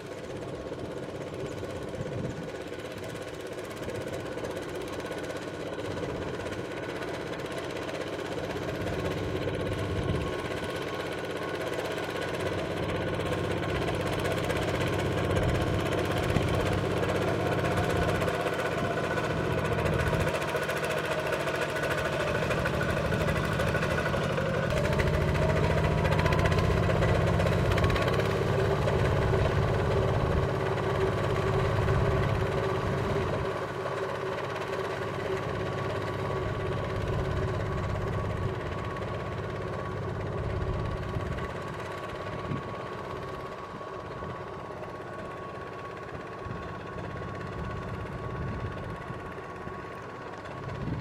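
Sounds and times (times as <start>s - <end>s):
tractor engine knocking: 0.0s - 51.0s.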